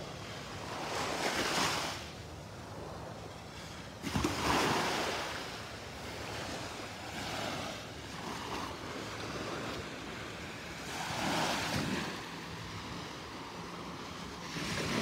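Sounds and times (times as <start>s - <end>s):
small waves washing onto sand: 0.0s - 15.0s.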